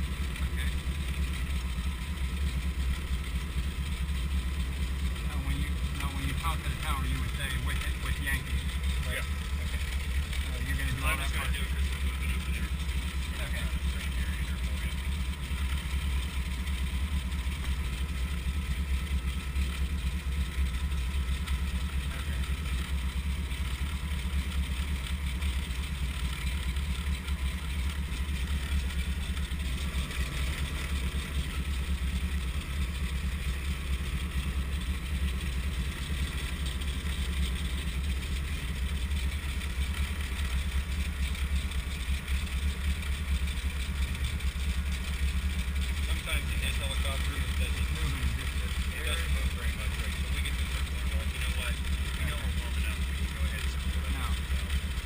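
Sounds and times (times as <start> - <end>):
helicopter engine idling: 0.0 - 55.0.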